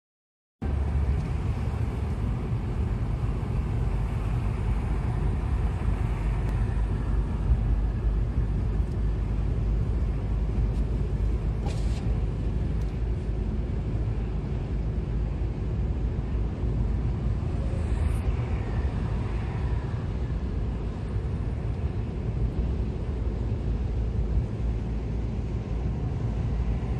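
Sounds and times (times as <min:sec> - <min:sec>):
car engine and road noise: 0:00.6 - 0:26.9.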